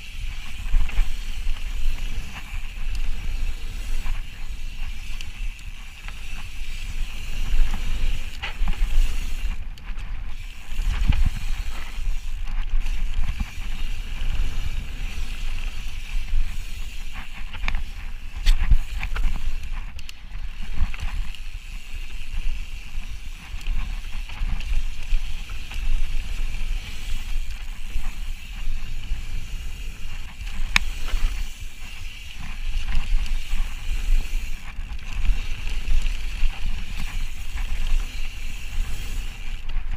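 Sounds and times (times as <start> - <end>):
bike rattling over bumps: 0.0 - 39.9
tyre noise on dirt: 0.0 - 39.9
wind rumble on microphone: 0.0 - 39.9.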